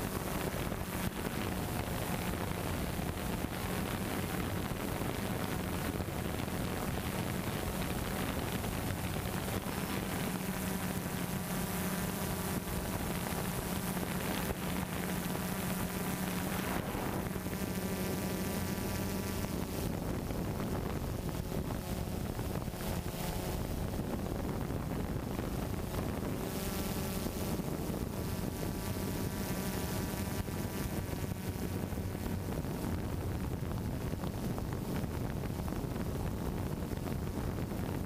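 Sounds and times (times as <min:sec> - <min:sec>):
drone propellers humming: 0:00.0 - 0:38.0
wind hiss: 0:00.0 - 0:38.0.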